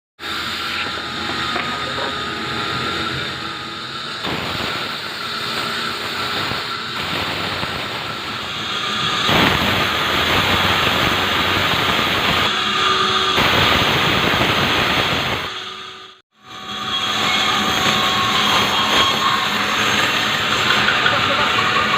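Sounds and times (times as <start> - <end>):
saw grinding through log: 0.2 - 14.0, 15.5 - 21.9.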